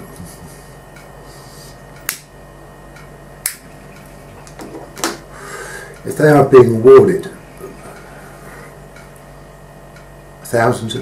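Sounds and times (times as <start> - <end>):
small noises: 0.0 - 10.6
faint steady hum: 0.0 - 11.0.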